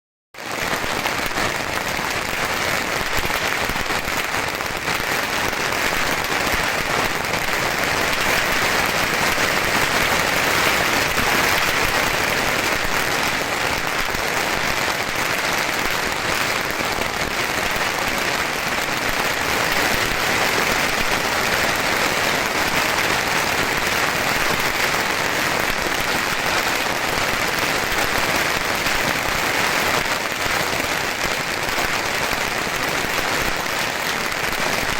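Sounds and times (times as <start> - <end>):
bottle rockets crackling and popping: 0.4 - 34.9.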